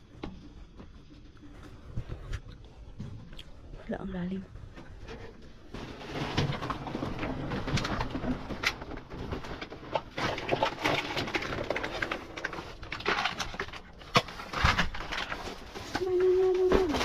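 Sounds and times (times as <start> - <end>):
plastic and cardboard rustling: 0.0 - 17.0.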